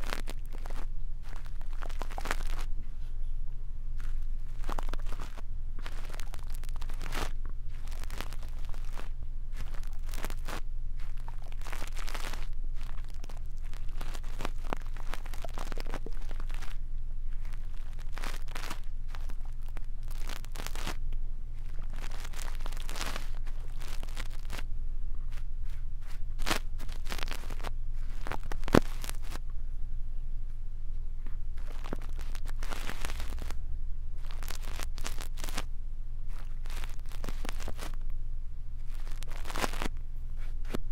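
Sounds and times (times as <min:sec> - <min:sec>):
brush bristles scratching microphone: 0:00.0 - 0:03.2, 0:04.0 - 0:21.0, 0:21.6 - 0:29.4, 0:31.2 - 0:33.6, 0:34.2 - 0:35.7, 0:36.3 - 0:38.0, 0:38.8 - 0:40.9
steady low hum: 0:00.0 - 0:40.9.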